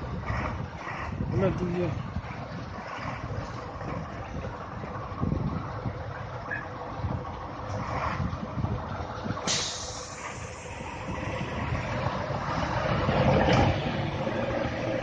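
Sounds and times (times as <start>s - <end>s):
diesel truck engines under load: 0.0s - 15.0s.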